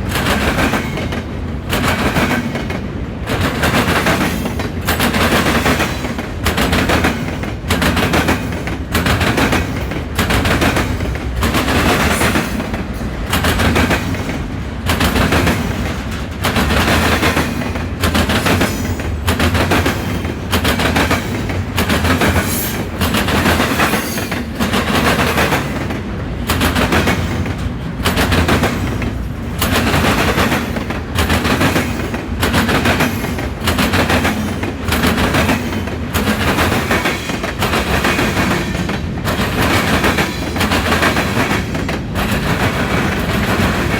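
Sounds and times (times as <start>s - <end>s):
train rolling rumble: 0.0s - 43.9s
train wheels banging over crossing: 0.0s - 43.9s.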